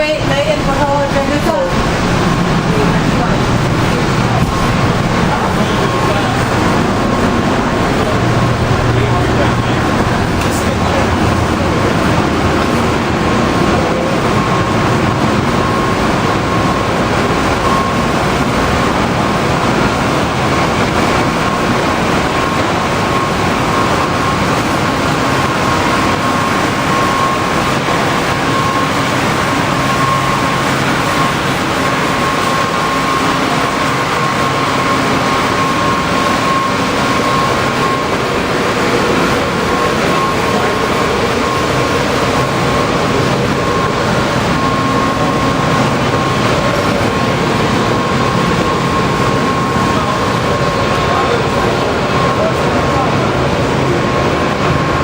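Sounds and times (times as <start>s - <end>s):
faint high whine: 0.0s - 55.0s
train rumble and hiss: 0.0s - 55.0s.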